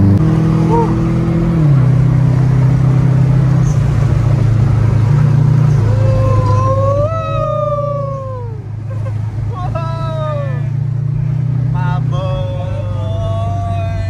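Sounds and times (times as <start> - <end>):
car engine drone in cabin: 0.0 - 14.0.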